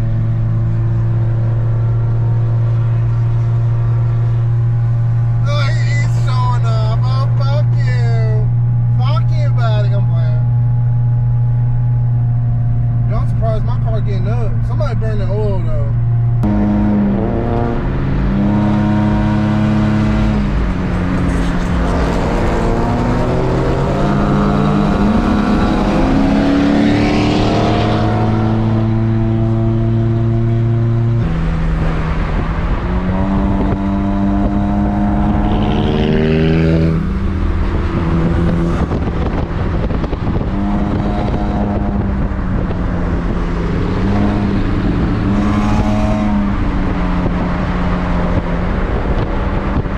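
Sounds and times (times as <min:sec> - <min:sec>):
car engine from inside cabin: 0:00.0 - 0:49.9.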